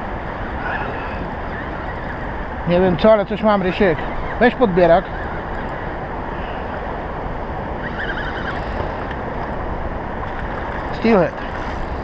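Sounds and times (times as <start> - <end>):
water around boat: 0.0 - 12.0
wind on microphone: 0.0 - 12.0.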